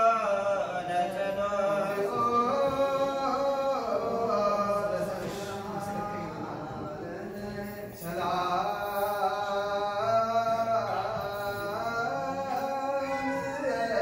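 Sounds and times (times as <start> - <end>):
chanted singing: 0.0 - 14.0.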